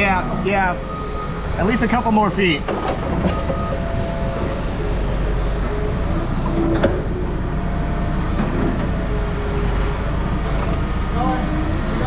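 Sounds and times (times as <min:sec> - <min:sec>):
vehicle engine running: 0:00.2 - 0:12.0.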